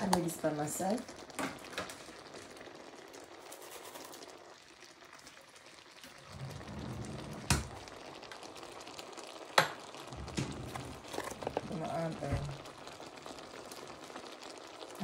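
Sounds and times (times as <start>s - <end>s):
food simmering sizzle in pan: 0.0s - 15.0s.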